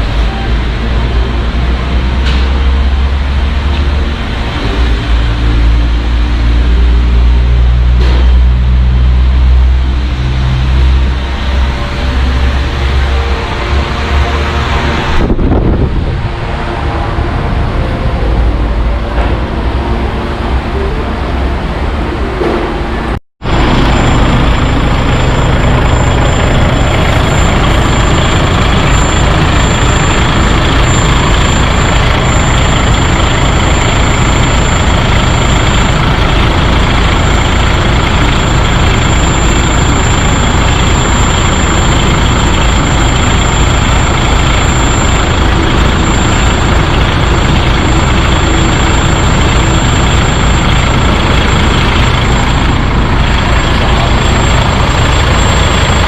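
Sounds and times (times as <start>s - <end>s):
truck diesel engine rumbling: 0.0s - 56.0s
thin high whine: 2.0s - 56.0s.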